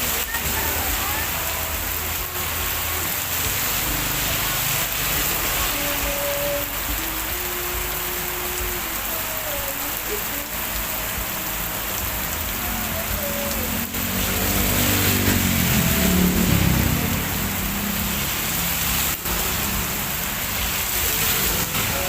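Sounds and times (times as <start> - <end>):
heavy rain on roof: 0.0 - 22.0
vehicle engine passing by: 0.0 - 22.0.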